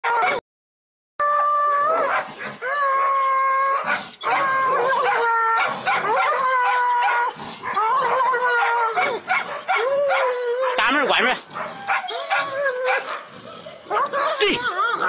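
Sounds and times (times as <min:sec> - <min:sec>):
dog howling: 0:00.0 - 0:00.4, 0:01.2 - 0:15.0
dog yelping: 0:00.1 - 0:00.4, 0:01.9 - 0:15.0.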